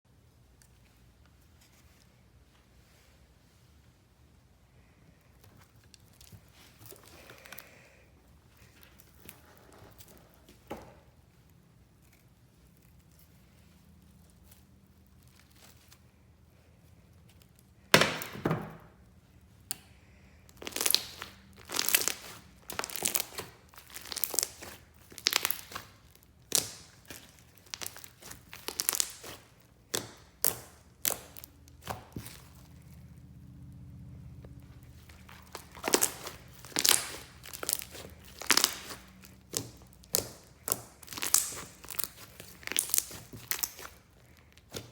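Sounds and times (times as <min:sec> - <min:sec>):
slime squishing: 0:05.2 - 0:18.4, 0:19.0 - 0:44.9.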